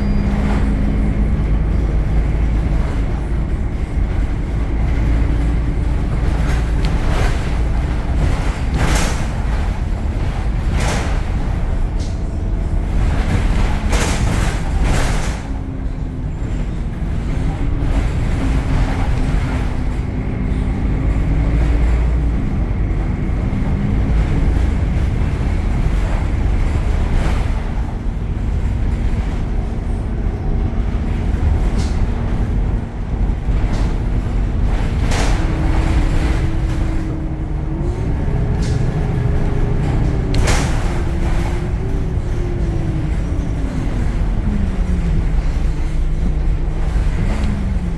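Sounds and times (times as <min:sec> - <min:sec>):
bus diesel engine rumble and whine: 0:00.0 - 0:47.9
short knocks and rattles: 0:00.2 - 0:47.9.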